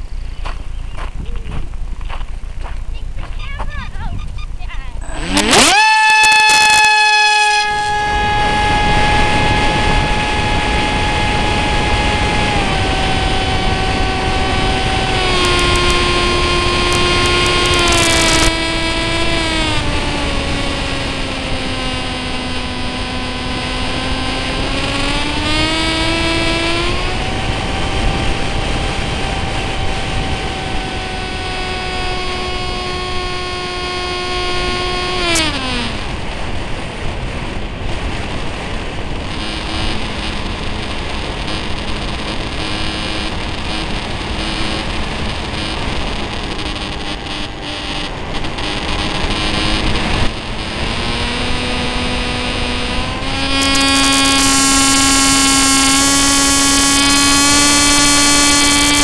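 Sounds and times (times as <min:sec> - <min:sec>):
electric motor and propeller whine: 0:00.0 - 0:59.0.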